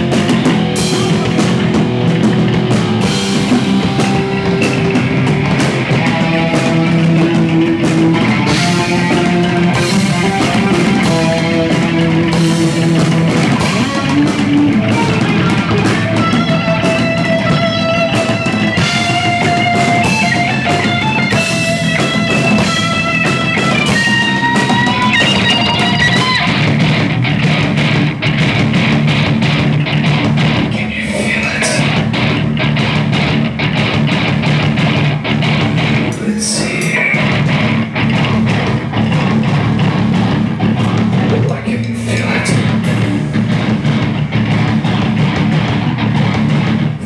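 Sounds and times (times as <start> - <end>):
electric guitar held notes: 0.0 - 47.0
live rock band playing: 0.0 - 47.0.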